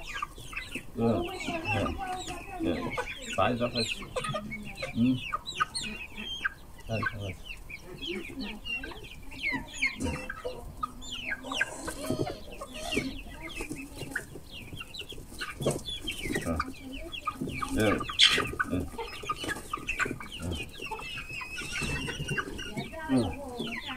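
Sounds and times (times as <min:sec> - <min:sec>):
chicks clucking and peeping: 0:00.0 - 0:23.9.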